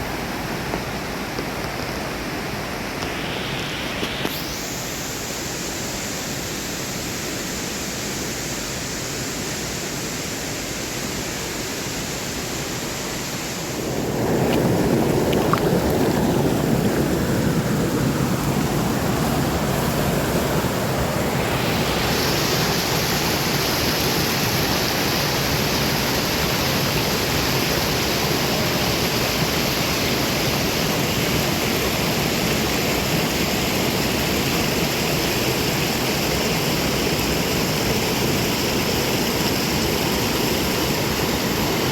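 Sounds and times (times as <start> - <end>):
rushing water: 0.0 - 41.9.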